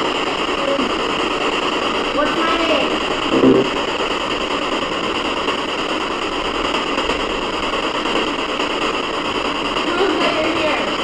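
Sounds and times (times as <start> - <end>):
choppy radio static hiss: 0.0 - 11.0.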